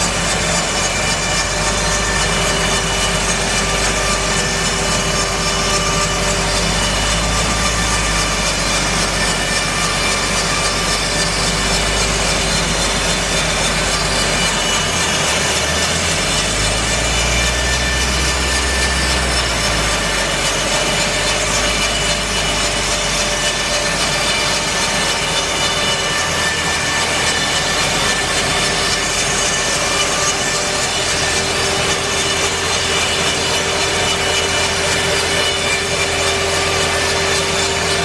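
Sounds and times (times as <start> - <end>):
bandsaw mill sawing log: 0.0 - 38.0.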